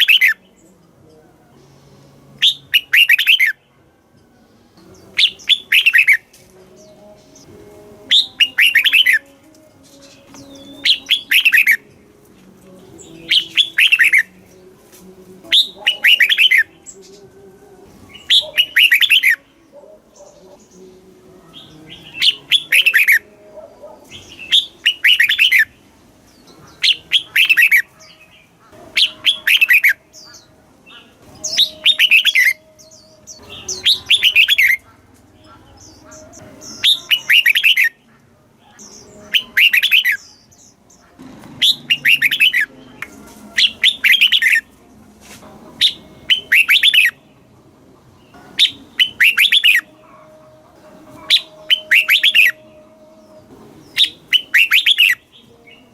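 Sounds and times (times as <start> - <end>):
bulbul singing: 0.0 - 55.9.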